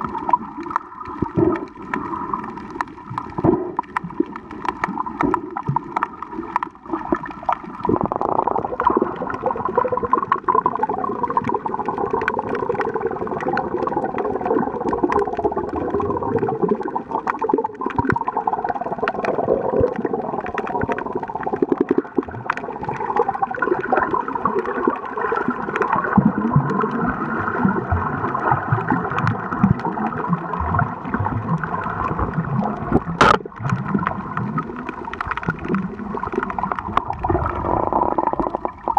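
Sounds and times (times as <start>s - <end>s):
small clicks and crackles: 0.0s - 38.9s
water swishing and gurgling: 0.0s - 38.9s.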